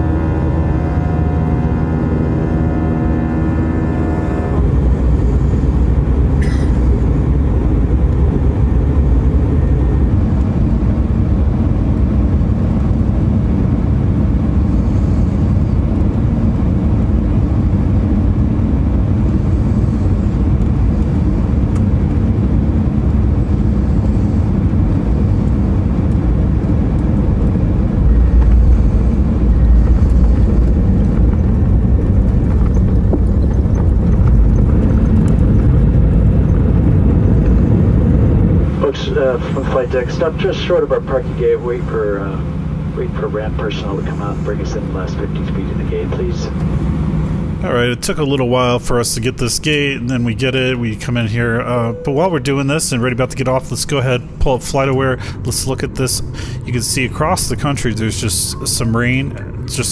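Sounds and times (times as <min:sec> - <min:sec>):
airliner cabin engine rumble: 0:00.0 - 0:59.9
landing gear rumble on runway: 0:00.0 - 0:59.9.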